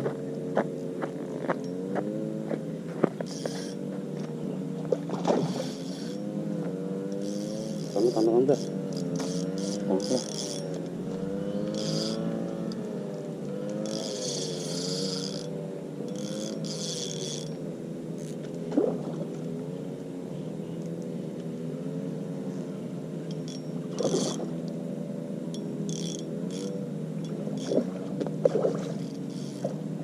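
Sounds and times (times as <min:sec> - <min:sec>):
motorboat engine running: 0:00.0 - 0:30.0.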